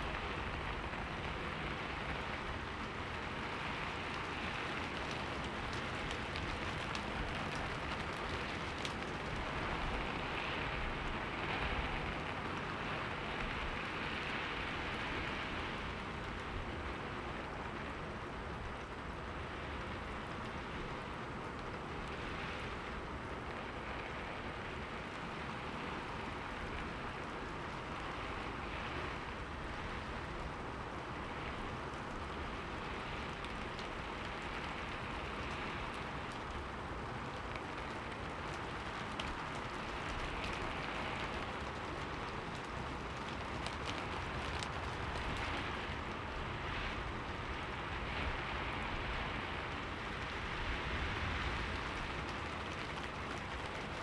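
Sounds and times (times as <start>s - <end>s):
rain on a window: 0.0s - 54.0s
raindrops ticking: 0.1s - 13.9s, 18.2s - 48.5s, 49.6s - 54.0s.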